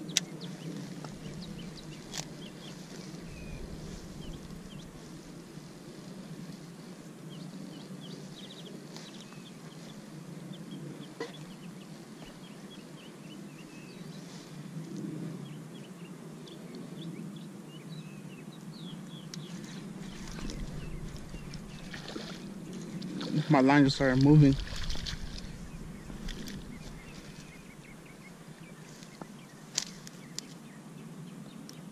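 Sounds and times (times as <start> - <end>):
small birds chirping: 0.0 - 5.3, 7.3 - 31.9
low outdoor background noise: 0.0 - 31.9.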